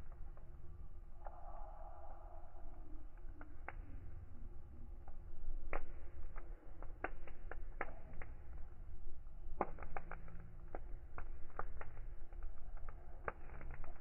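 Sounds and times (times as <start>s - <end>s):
low steady rumble: 0.0s - 14.0s
wood fire crackling: 0.0s - 14.0s.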